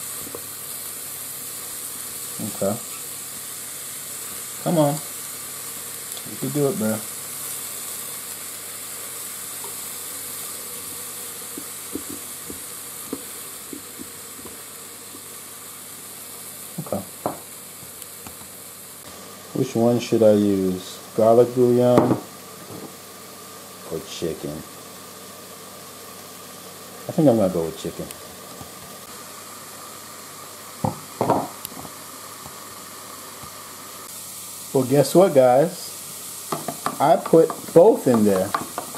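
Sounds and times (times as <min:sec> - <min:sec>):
mushrooms sizzling in oil: 0:00.0 - 0:38.9.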